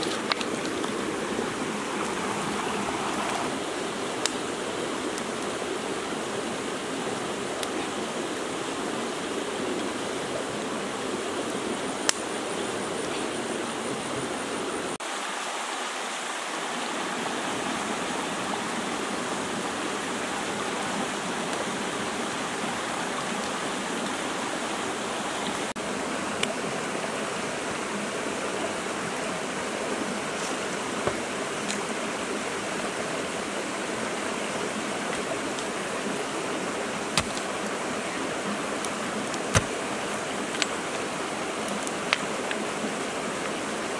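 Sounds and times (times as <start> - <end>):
stream rushing: 0.0 - 43.9.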